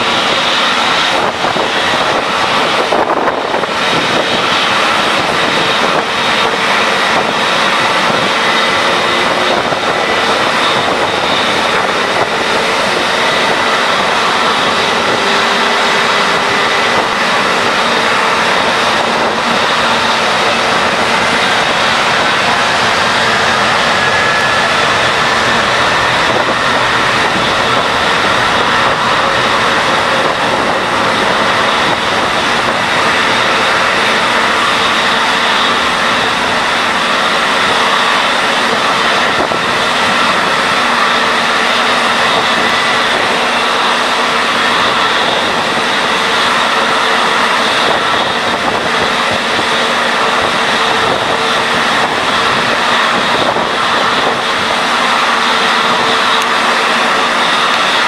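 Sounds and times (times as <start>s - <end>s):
jet engines roaring on takeoff: 0.0s - 58.0s.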